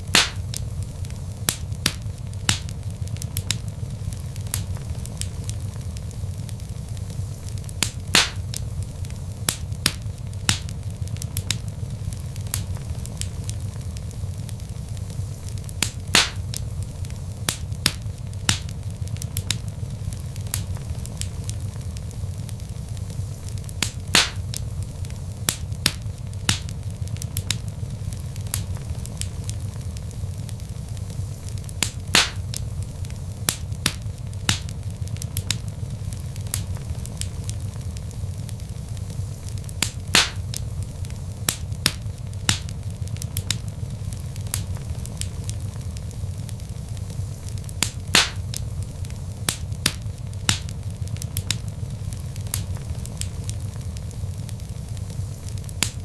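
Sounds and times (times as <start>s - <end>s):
fire snapping and popping: 0.0s - 56.0s
rumble of flames: 0.0s - 56.0s.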